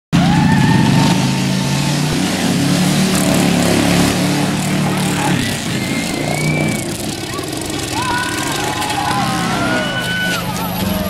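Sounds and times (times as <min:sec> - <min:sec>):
lawnmower engines running loudly: 0:00.2 - 0:11.0.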